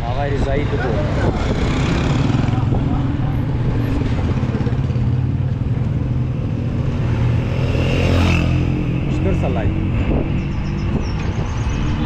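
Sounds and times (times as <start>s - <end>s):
road and wind noise: 0.0s - 12.0s
motorcycle engine running: 0.6s - 12.0s.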